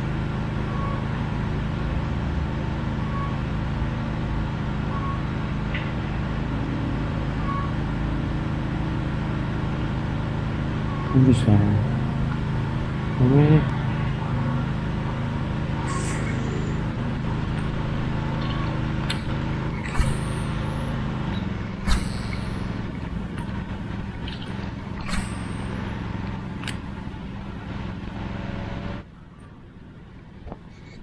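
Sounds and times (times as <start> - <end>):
engine drone: 0.0 - 31.0.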